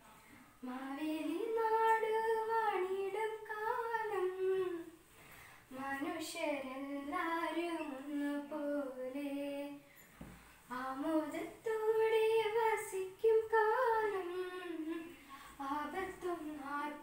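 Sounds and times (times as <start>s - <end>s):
girl singing unaccompanied: 0.6s - 5.1s, 5.7s - 9.9s, 10.7s - 17.0s.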